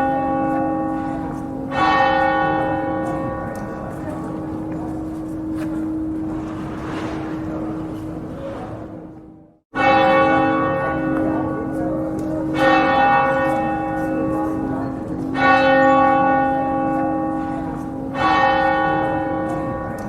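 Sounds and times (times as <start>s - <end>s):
church bell tolling: 0.0s - 20.0s.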